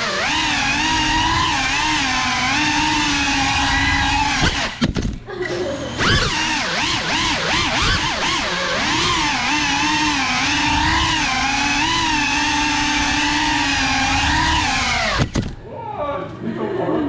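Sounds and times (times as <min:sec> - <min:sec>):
drone motors whining: 0:00.0 - 0:15.7.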